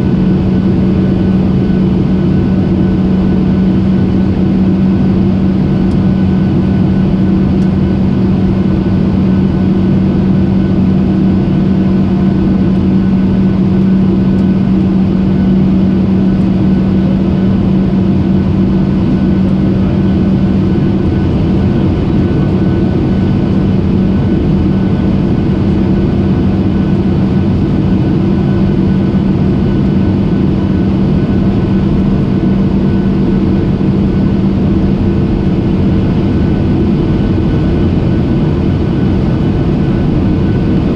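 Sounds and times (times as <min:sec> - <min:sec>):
airliner cabin engine drone: 0:00.0 - 0:40.9
low hum: 0:00.0 - 0:40.9.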